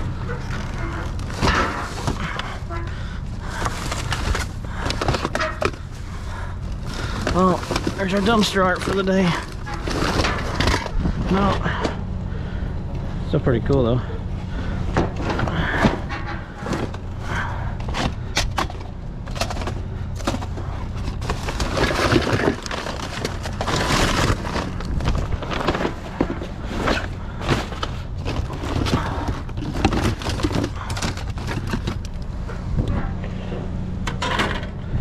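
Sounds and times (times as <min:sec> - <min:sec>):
junk clattering and scraping: 0:00.0 - 0:35.0
low hum: 0:00.0 - 0:35.0.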